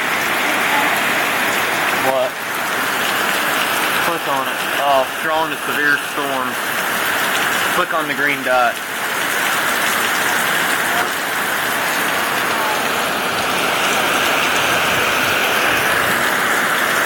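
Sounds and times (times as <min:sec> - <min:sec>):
heavy rain in strong wind: 0:00.0 - 0:17.0.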